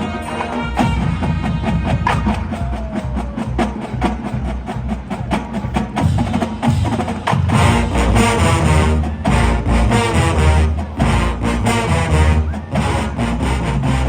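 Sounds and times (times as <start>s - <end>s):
marching band playing metal: 0.0s - 14.0s
rapid sharp percussion strikes: 0.0s - 14.0s.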